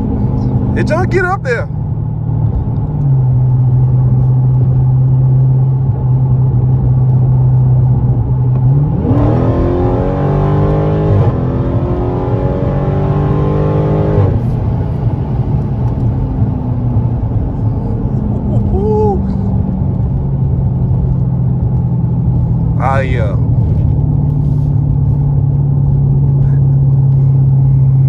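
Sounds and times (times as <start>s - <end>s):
car engine revving: 2.4s - 28.0s.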